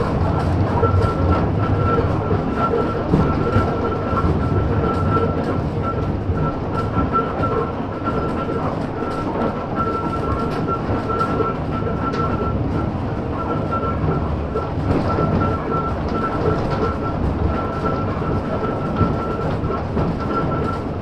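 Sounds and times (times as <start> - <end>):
tram wheels rumbling and rattling: 0.0 - 21.0.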